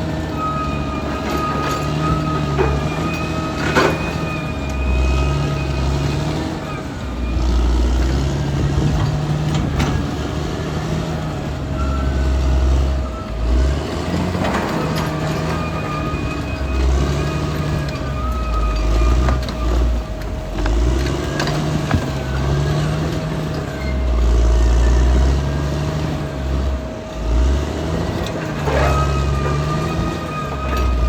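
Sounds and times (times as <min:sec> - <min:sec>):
bulldozer diesel engine rumbling: 0:00.0 - 0:31.0.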